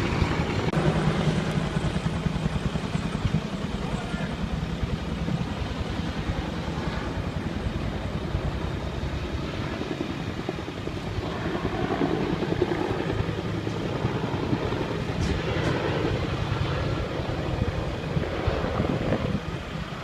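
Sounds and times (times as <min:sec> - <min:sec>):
helicopter rotor chop: 0:00.0 - 0:20.0.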